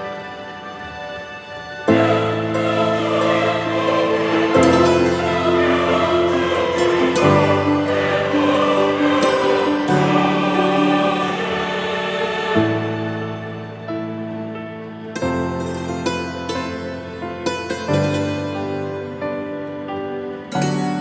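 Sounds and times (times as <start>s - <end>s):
slow sustained music chords: 0.0s - 21.0s.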